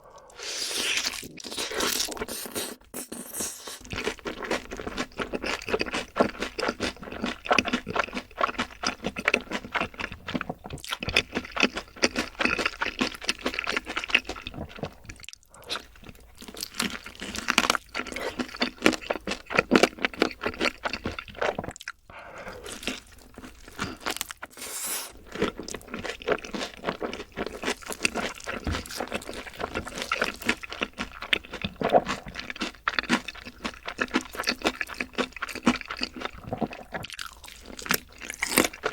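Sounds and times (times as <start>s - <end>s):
crunching and chewing fried chicken: 0.0s - 38.9s.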